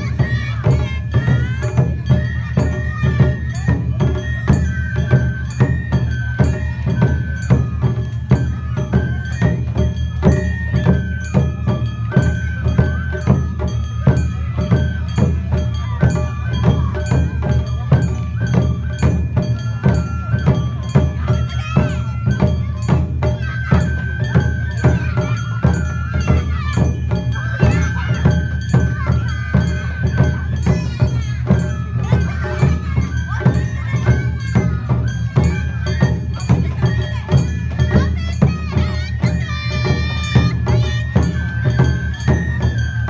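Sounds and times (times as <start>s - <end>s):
festival drums: 0.0s - 43.0s
high bamboo flute melody: 0.0s - 43.0s.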